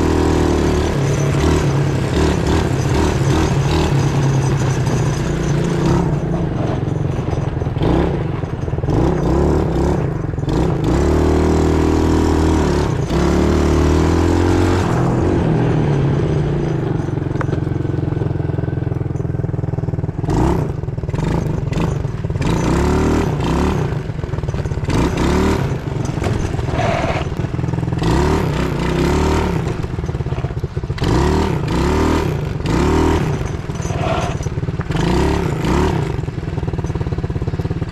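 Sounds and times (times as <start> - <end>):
knocks and rattles from bumps: 0.0 - 37.9
quad bike engine revving: 0.0 - 37.9.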